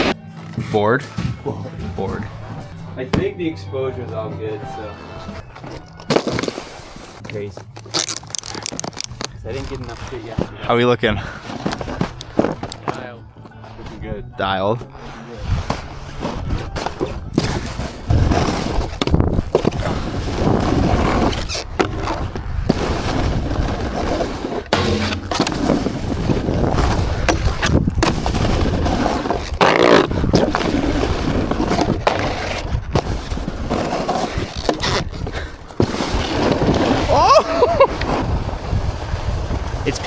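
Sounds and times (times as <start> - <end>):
ski edges knocking and scraping: 0.0 - 3.5, 4.7 - 14.2, 14.9 - 40.0
skis sliding over packed snow: 4.8 - 13.2, 15.0 - 40.0.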